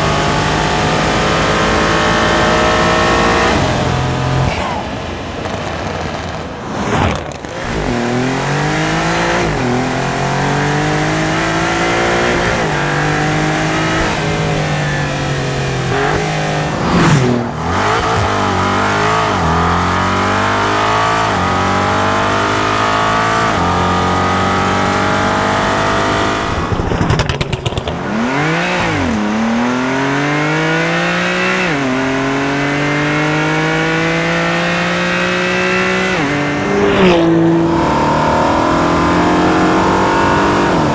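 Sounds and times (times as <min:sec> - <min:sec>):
car engine accelerating through gears: 0:00.0 - 0:40.9
engine rev: 0:00.0 - 0:40.9.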